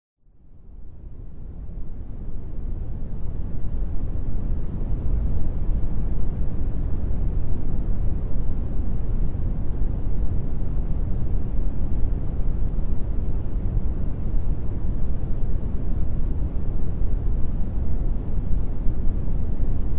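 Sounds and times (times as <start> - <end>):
brown noise hiss: 1.1 - 19.9.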